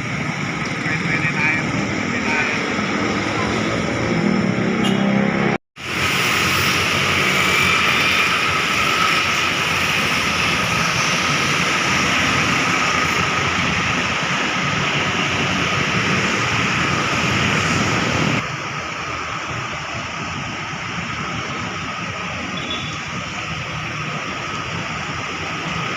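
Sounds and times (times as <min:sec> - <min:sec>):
bus traffic on wet road: 0:00.0 - 0:25.9.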